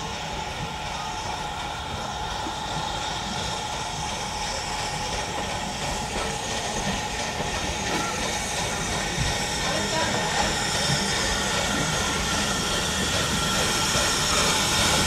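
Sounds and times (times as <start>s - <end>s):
steam train running slowly: 0.0s - 15.0s.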